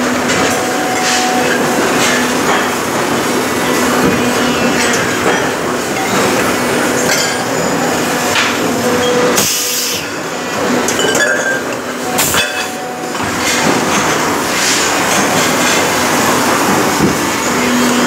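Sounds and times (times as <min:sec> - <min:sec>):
mechanical rumble and clatter: 0:00.0 - 0:18.0.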